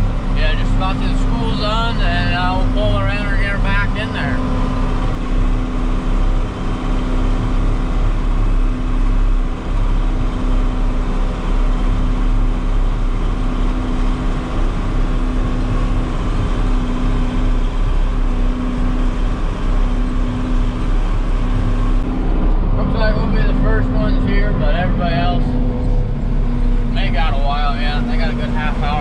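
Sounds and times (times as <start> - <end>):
road noise: 0.0 - 29.0
tractor diesel engine running: 0.0 - 29.0.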